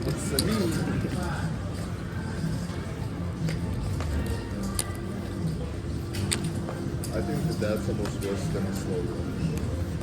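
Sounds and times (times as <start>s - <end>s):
background music: 0.0s - 10.0s
low murmur of voices: 0.0s - 10.0s.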